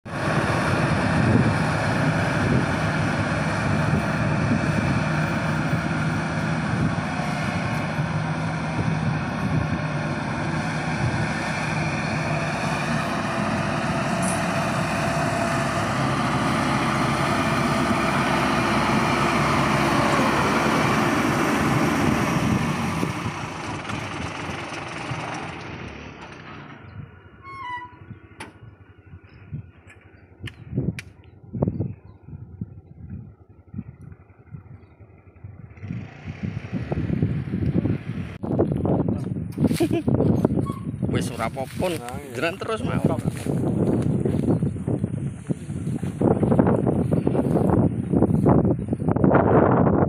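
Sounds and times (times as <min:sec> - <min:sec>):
combine harvester engine: 0:00.0 - 0:31.1, 0:33.1 - 0:50.0.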